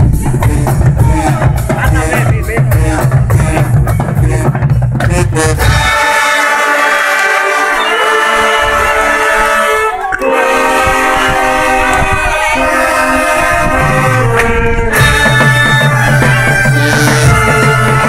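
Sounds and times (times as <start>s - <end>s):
brass band playing held chords: 0.0s - 18.0s
low sousaphone notes: 0.1s - 18.0s.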